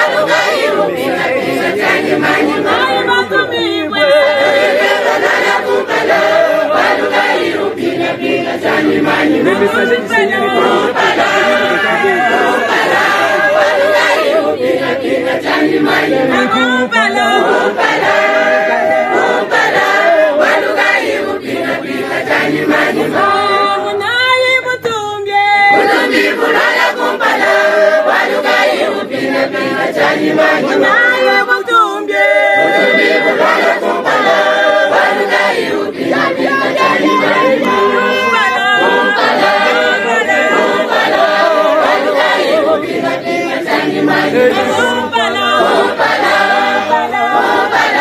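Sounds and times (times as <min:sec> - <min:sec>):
women and girls singing: 0:00.0 - 0:48.0.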